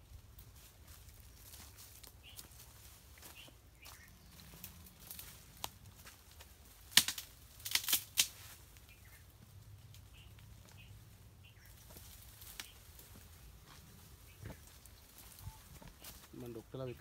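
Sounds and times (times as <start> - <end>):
branches rustling and snapping: 0.2 - 16.5.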